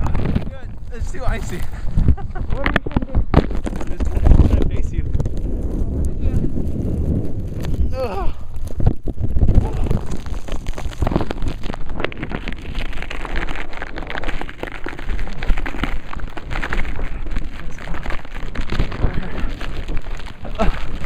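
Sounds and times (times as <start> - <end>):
ice and snow ticking: 0.0 - 21.0
wind buffeting microphone: 0.0 - 21.0.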